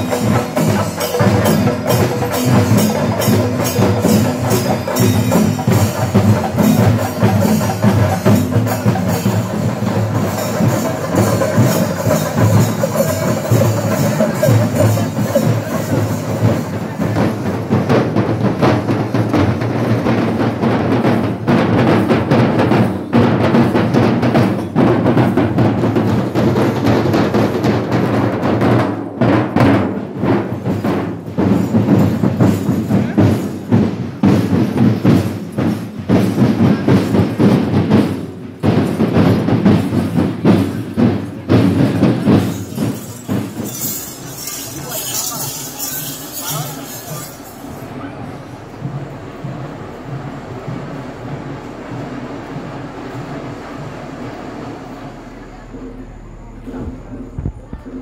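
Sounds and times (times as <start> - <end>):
drum ensemble beating fast rhythm: 0.0 - 58.0.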